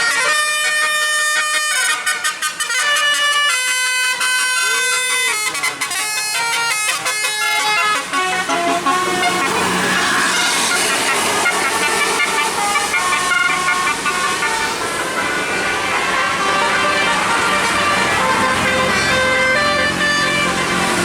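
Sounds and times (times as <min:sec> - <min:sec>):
engine and road noise: 0:00.0 - 0:21.0
musical bus horn playing a tune: 0:00.0 - 0:21.0.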